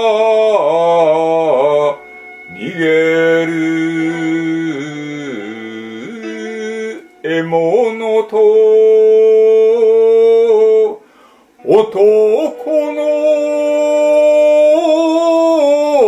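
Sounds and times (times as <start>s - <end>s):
man chanting with long held notes: 0.0s - 11.0s, 11.6s - 16.0s.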